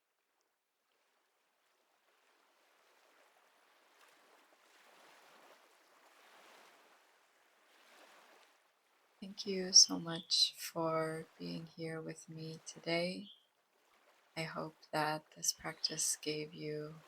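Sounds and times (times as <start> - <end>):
faint ocean waves washing: 1.6 - 17.0.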